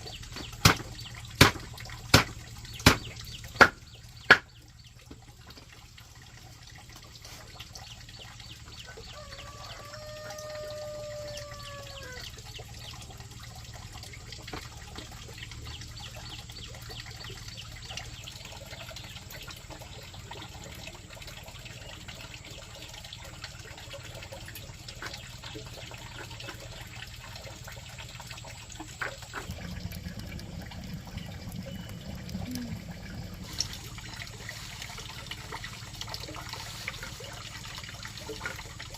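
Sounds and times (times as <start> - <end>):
fine water drips: 0.0 - 38.9
water trickling and splashing: 0.0 - 38.9.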